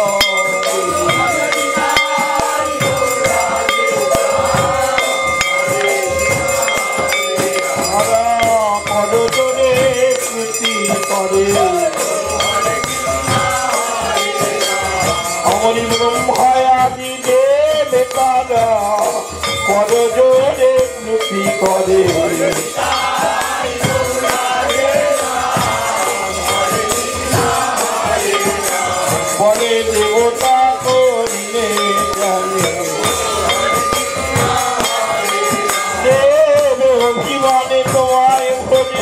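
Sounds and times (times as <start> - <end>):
clay barrel drums beaten: 0.0 - 39.0
jangling metal hand percussion: 0.0 - 39.0
voices singing a chant: 0.0 - 39.0.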